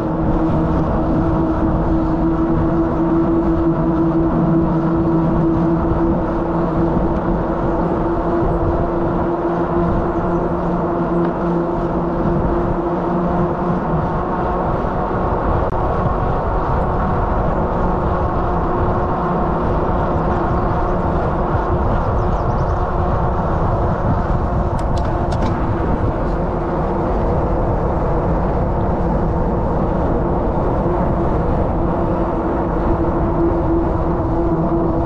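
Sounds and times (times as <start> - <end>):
bicycle tyres humming on asphalt: 0.0 - 35.0
wind rush: 0.0 - 35.0.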